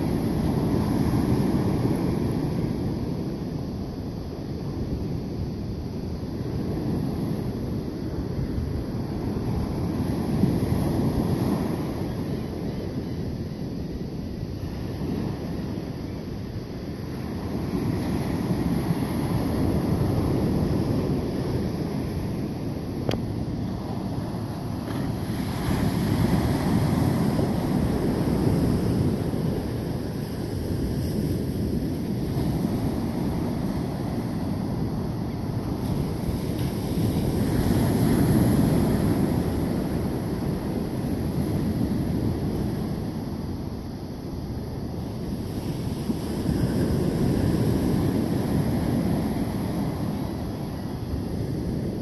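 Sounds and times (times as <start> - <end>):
small waves washing up a beach: 0.0 - 52.0.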